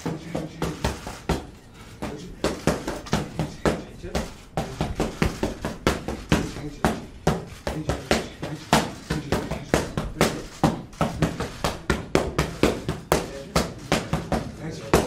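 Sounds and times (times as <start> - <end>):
boxing gloves smacking mitts: 0.0 - 15.0.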